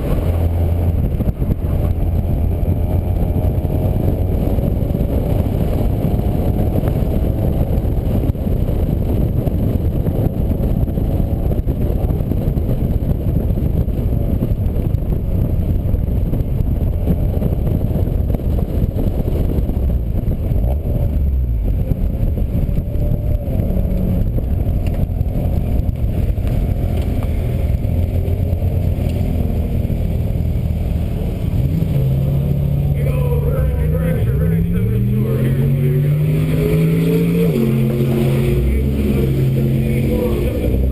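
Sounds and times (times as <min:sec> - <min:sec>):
vehicle engine rumbling at speed: 0:00.0 - 0:40.9.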